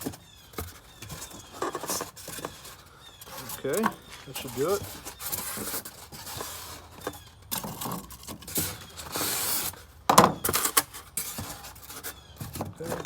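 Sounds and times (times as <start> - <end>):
styrofoam squeaking against cardboard: 0.0 - 13.0.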